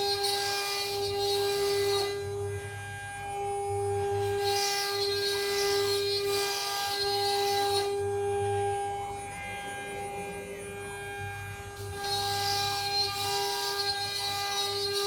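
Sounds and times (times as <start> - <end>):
router spindle whining: 0.0 - 15.0.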